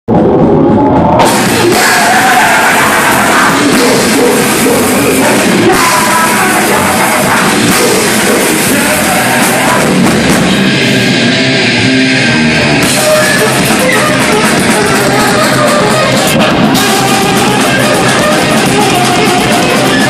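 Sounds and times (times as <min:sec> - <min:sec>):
distorted electric guitar: 0:00.1 - 0:20.0
drums: 0:00.1 - 0:20.0.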